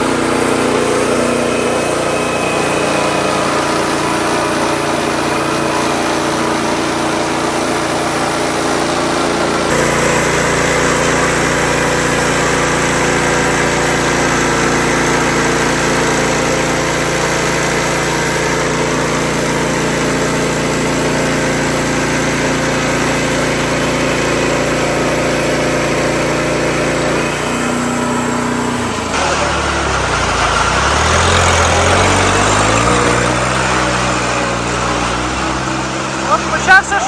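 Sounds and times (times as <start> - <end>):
sawmill engine running: 0.0 - 37.0.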